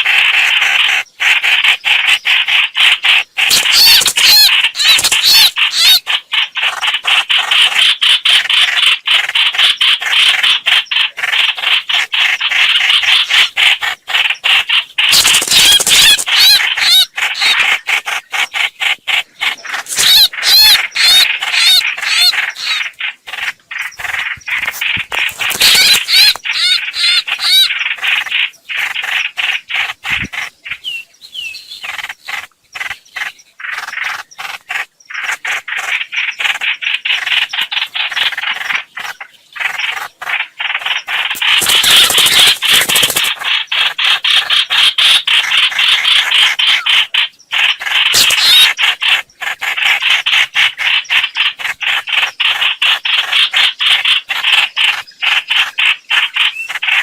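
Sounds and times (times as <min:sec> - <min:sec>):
bird harsh chirping: 0:00.0 - 0:57.0.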